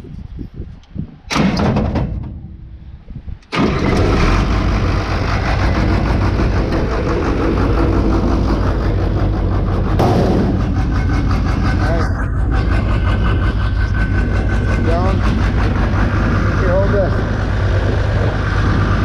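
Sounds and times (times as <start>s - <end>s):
engine cranking: 3.4s - 18.8s
engine running loudly: 3.5s - 19.0s.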